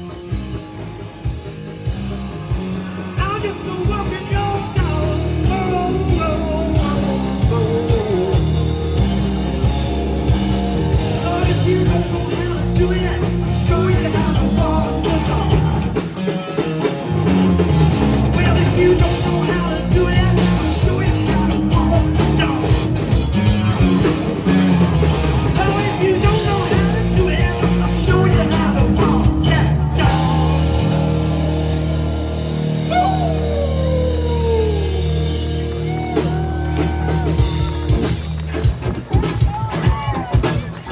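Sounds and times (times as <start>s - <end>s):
bass guitar: 0.0s - 40.9s
drum kit with cymbals: 0.0s - 40.9s
electric guitar: 0.0s - 40.9s.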